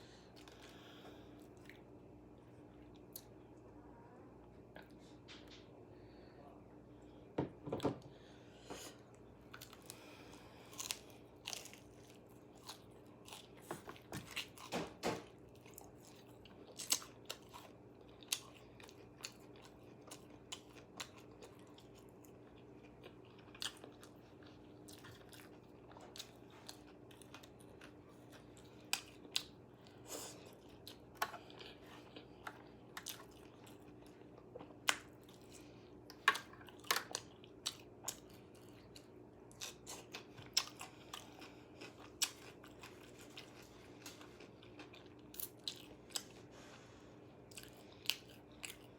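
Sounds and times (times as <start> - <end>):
steady low hum: 0.0 - 48.9
person chewing crunchy food: 0.3 - 3.4, 8.9 - 48.9.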